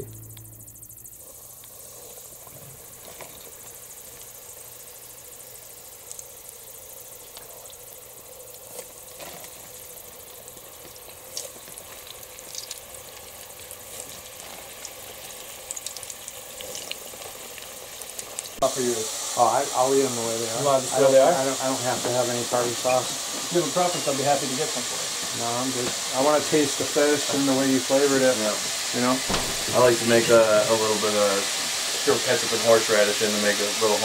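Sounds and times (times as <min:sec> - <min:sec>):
fish frying in oil: 0:00.0 - 0:34.0.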